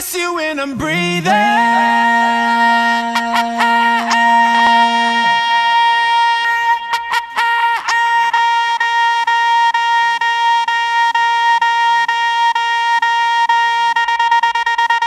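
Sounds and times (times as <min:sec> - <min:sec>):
held high synth note: 0:01.1 - 0:15.0.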